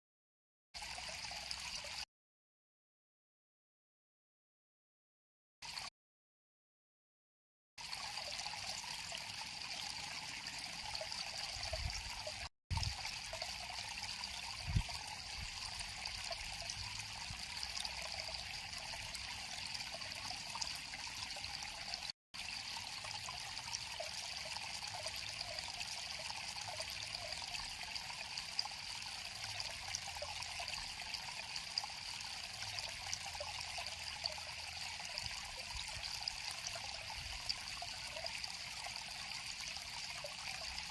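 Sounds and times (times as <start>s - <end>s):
stream water flowing over stones: 0.8s - 2.1s, 7.8s - 40.9s.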